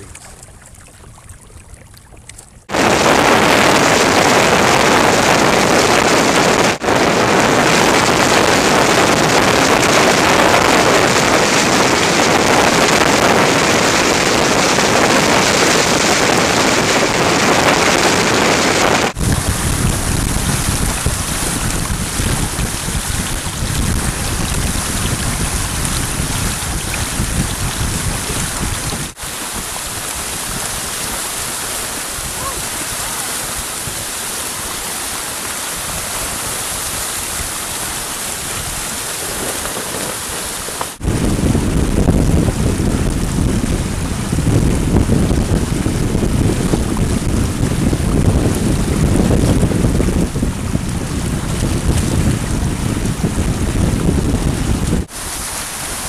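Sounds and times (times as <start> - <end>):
water rushing past boat hull: 0.0 - 56.0
wind rushing over microphone: 2.6 - 56.0.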